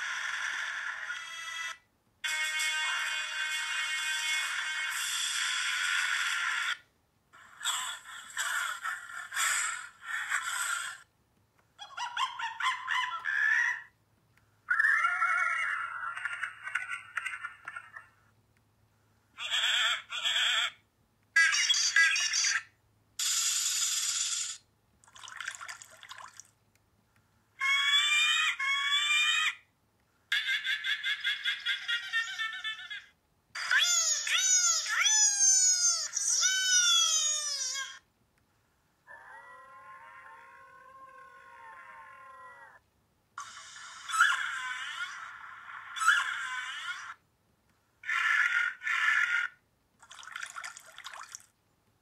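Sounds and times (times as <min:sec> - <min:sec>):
animal sound effects from laptop speakers: 0:00.0 - 0:11.1, 0:11.8 - 0:14.0, 0:14.7 - 0:18.2, 0:19.4 - 0:24.7, 0:27.6 - 0:29.7, 0:30.3 - 0:38.0, 0:39.1 - 0:42.8, 0:43.4 - 0:47.2, 0:48.0 - 0:50.3.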